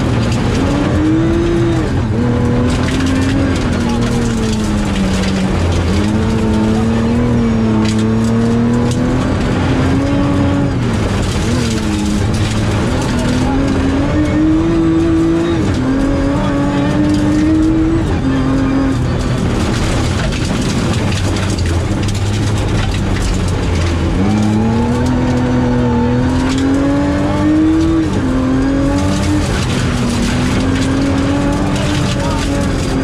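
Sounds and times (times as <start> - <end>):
gravel and tyre noise: 0.0 - 33.0
rally car engine revving: 0.0 - 33.0.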